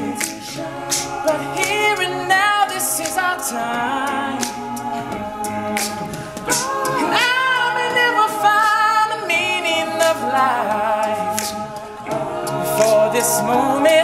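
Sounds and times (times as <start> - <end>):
male a cappella group singing: 0.0 - 14.0.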